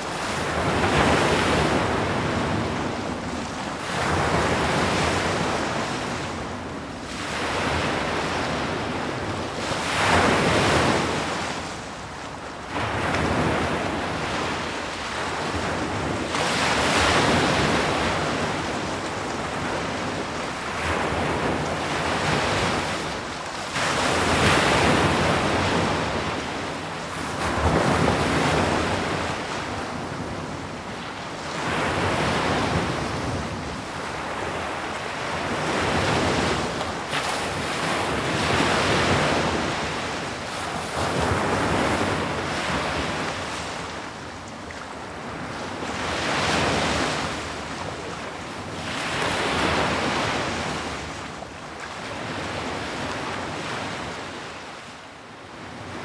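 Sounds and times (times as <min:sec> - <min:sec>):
ocean waves breaking on shore: 0:00.0 - 0:56.0
wind: 0:00.0 - 0:56.0.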